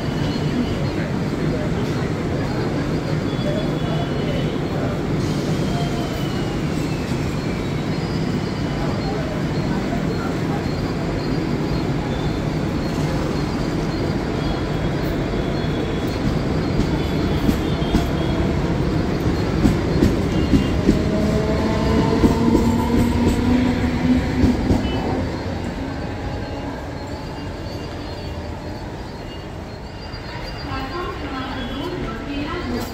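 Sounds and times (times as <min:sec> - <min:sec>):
train coaches rumbling: 0:00.0 - 0:32.9
train whine: 0:00.0 - 0:32.9.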